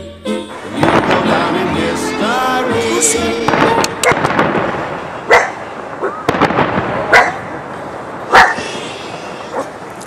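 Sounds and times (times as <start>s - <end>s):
fireworks bursting bangs: 0.5s - 9.9s.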